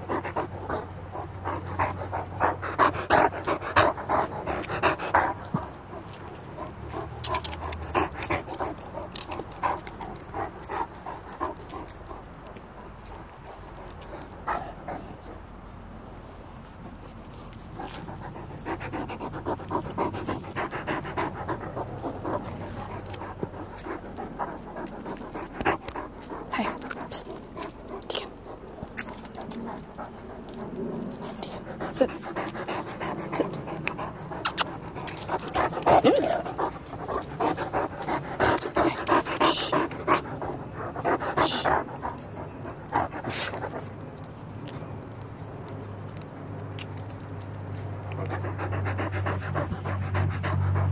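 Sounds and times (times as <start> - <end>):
large dog panting: 0.0 - 44.4, 47.8 - 50.9.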